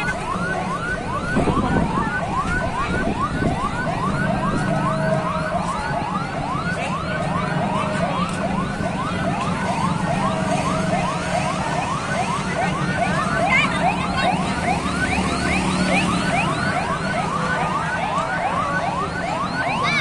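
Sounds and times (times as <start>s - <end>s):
siren wail: 0.0s - 20.0s
sirens yelping: 0.0s - 20.0s.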